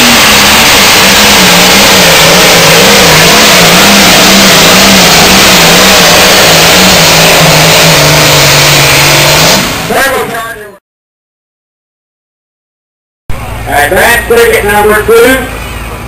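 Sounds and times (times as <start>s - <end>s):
diesel tractor engine at full power: 0.0s - 10.7s, 13.3s - 16.0s.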